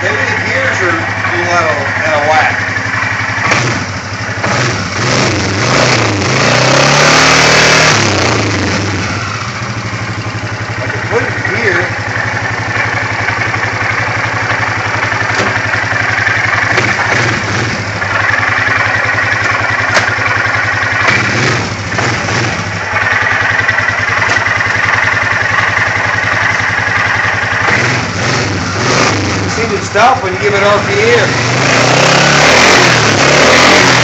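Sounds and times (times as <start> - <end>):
engine idling with knocking rattle: 0.0 - 6.5, 7.3 - 34.0.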